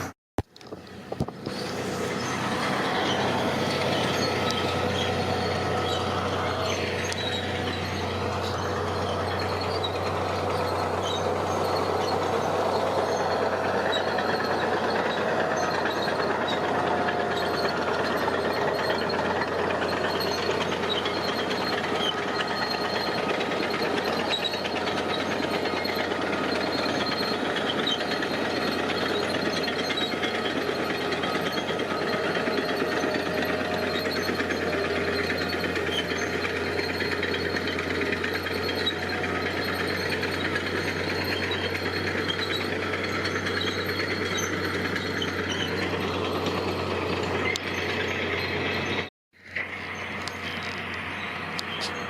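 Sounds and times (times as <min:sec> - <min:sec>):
diesel machinery running: 0:00.0 - 0:52.0.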